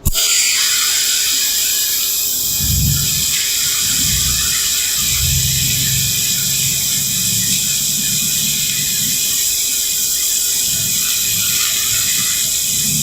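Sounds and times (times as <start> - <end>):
welding arc hiss and buzz: 0.0 - 13.0.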